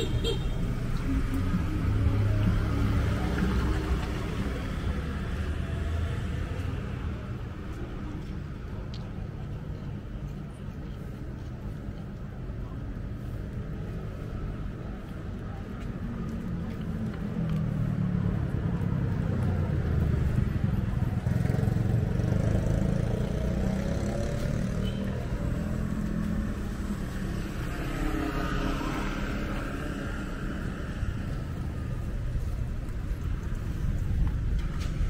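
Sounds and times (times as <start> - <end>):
cars and scooters driving past: 0.0 - 10.6, 12.6 - 35.0.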